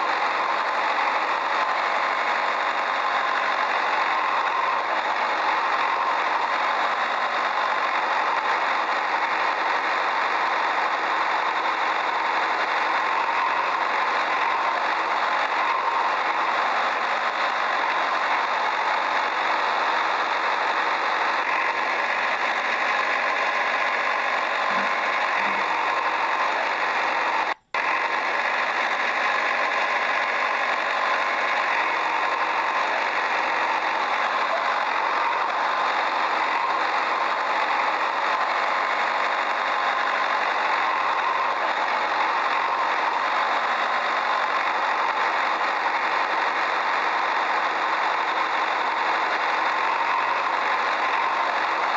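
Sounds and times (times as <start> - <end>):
motor running with rattle: 0.0 - 51.9.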